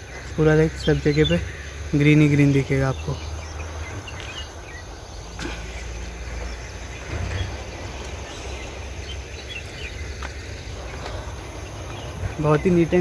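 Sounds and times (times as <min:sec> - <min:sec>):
birds chirping: 0:00.0 - 0:13.0
insects chirping: 0:00.0 - 0:13.0
low uneven rumble: 0:00.0 - 0:13.0.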